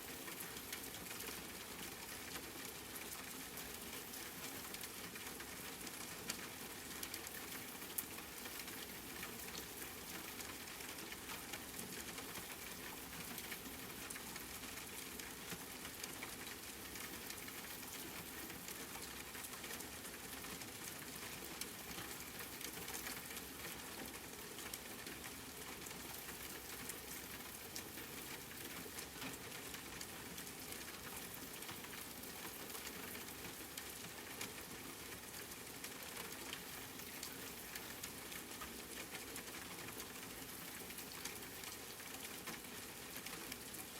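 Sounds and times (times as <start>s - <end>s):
rain falling: 0.0s - 43.9s
raindrops ticking: 0.0s - 43.9s.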